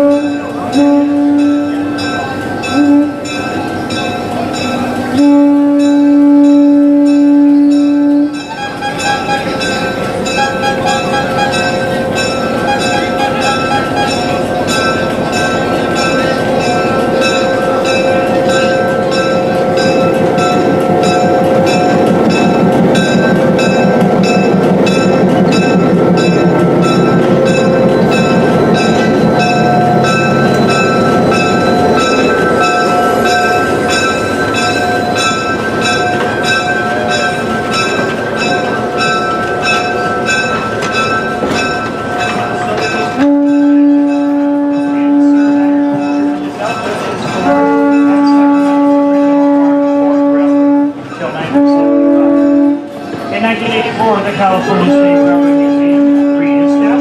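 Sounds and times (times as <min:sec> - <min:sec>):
bell ringing: 0:00.0 - 0:52.7
train rumbling past: 0:00.0 - 0:57.0
steady ringing tones: 0:00.3 - 0:56.4.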